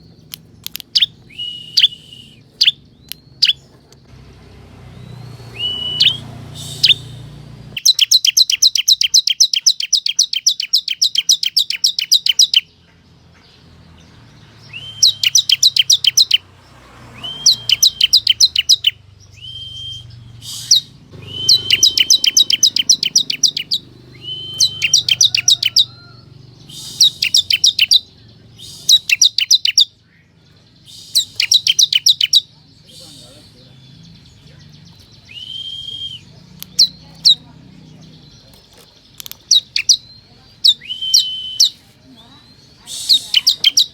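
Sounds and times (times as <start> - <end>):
bird song fast trills: 0.0 - 12.9, 13.6 - 43.9.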